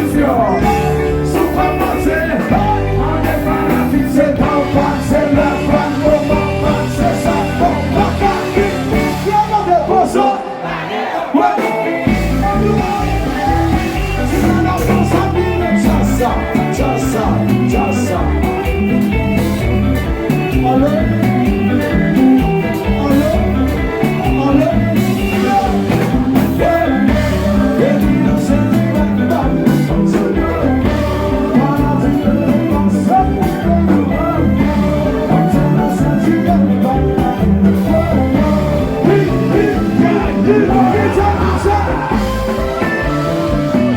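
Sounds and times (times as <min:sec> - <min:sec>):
loud music with singing: 0:00.0 - 0:43.9.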